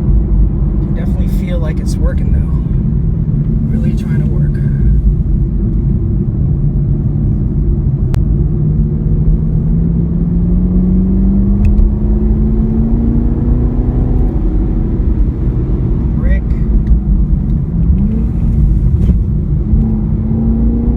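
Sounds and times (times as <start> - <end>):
car engine accelerating: 0.0 - 20.9
road and wind rumble: 0.0 - 20.9.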